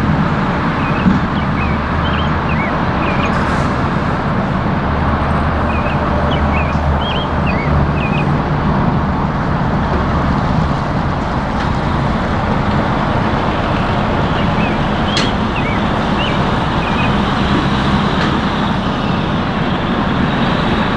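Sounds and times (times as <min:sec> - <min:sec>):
vehicle and road noise: 0:00.0 - 0:20.9.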